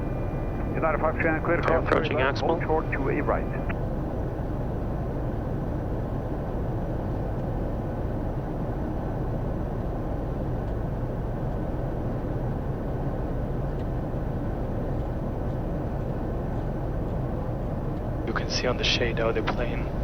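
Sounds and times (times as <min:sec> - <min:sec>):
aircraft airflow and engine hum: 0:00.0 - 0:20.0.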